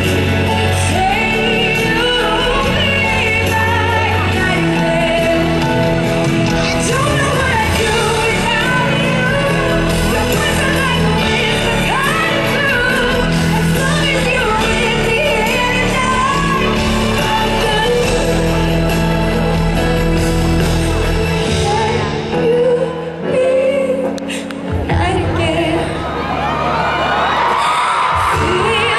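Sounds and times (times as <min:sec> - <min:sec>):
woman singing: 0:00.0 - 0:26.2, 0:27.5 - 0:28.9
band accompaniment: 0:00.0 - 0:28.9.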